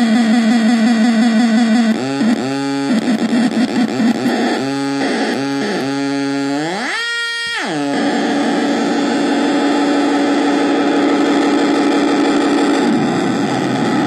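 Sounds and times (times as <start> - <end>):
harsh buzzing feedback tone: 0.0 - 14.0.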